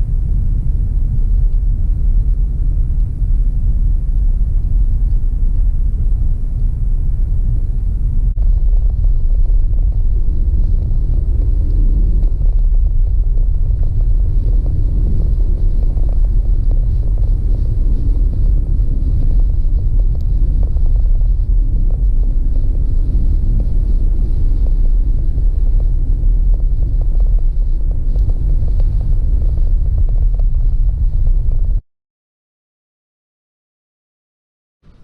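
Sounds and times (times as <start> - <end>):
car engine and road rumble: 0.0 - 31.8.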